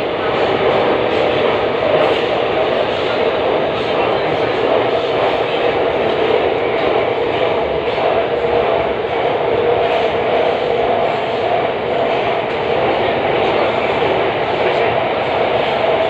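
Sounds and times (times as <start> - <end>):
constant hum: 0.0 - 16.0
metro train rumbling on rails: 0.0 - 16.0.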